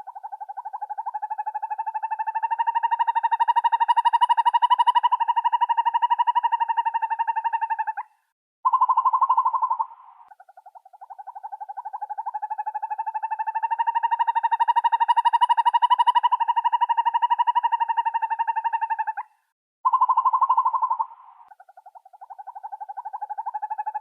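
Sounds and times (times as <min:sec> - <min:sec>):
owl trilling: 0:00.0 - 0:24.0.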